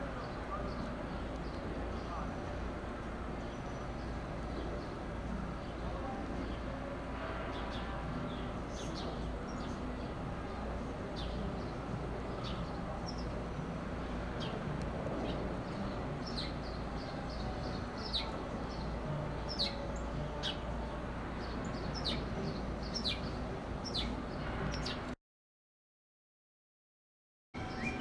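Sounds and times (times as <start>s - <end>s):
small birds chirping: 0.0s - 25.1s.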